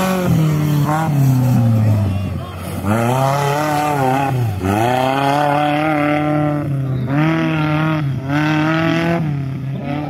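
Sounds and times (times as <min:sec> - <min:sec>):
engine revving hard: 0:00.0 - 0:10.0.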